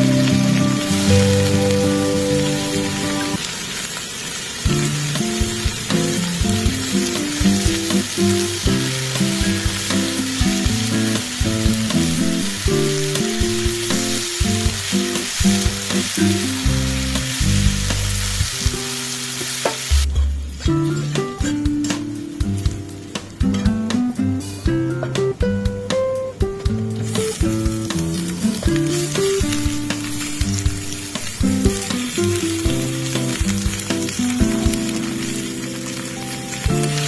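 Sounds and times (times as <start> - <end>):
background music: 0.0 - 3.4, 4.7 - 37.0
food sizzling in oil: 0.0 - 20.1, 26.8 - 37.0.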